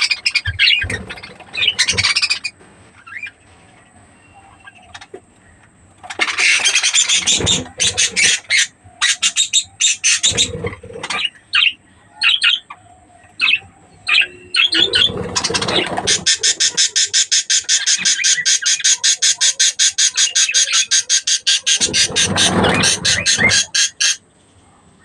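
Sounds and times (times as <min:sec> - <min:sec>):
budgerigars chirping: 0:00.0 - 0:02.5, 0:06.0 - 0:24.2.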